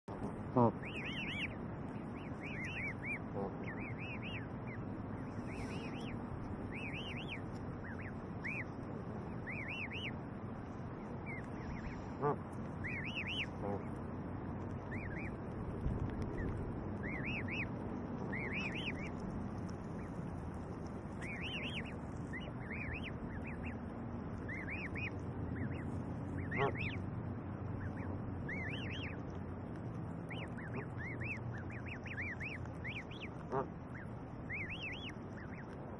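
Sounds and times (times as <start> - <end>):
goslings peeping: 0.0 - 35.9
low background noise: 0.1 - 35.9.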